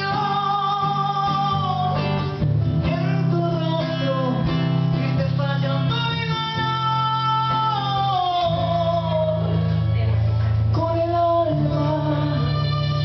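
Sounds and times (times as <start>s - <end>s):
person singing: 0.0s - 13.0s
strummed acoustic guitar: 0.0s - 13.0s.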